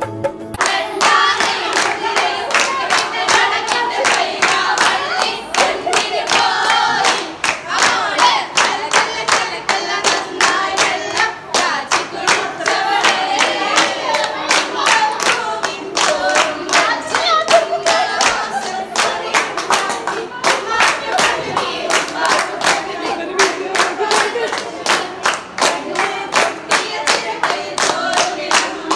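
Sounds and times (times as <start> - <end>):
hands clapping in rhythm: 0.5 - 28.9
women singing together: 0.6 - 28.9.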